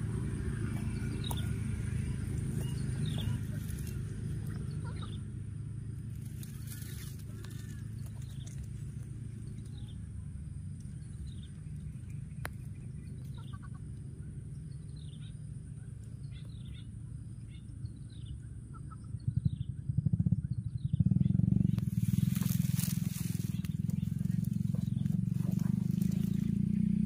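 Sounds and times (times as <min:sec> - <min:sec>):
low rumble: 0:00.0 - 0:27.0
small bird chirps: 0:00.3 - 0:05.4, 0:06.1 - 0:26.9.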